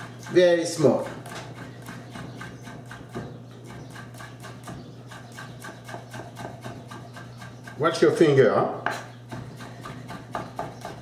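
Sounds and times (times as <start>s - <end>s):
knife chopping on wooden board: 1.0s - 8.0s, 8.8s - 11.0s.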